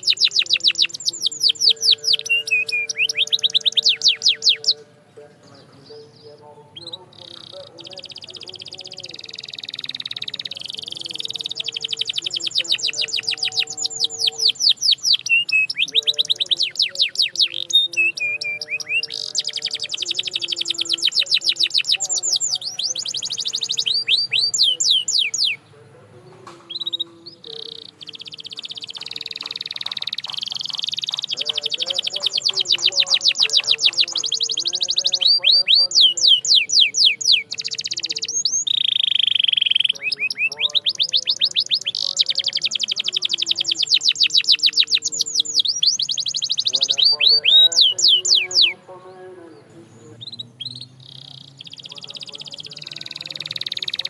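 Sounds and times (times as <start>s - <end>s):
canary singing in trills: 0.0s - 54.0s.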